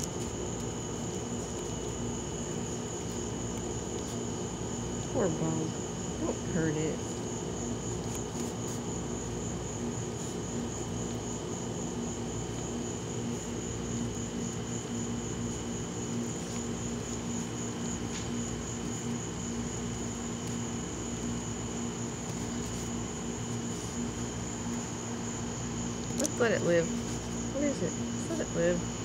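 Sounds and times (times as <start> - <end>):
night insects trilling: 0.0 - 29.0.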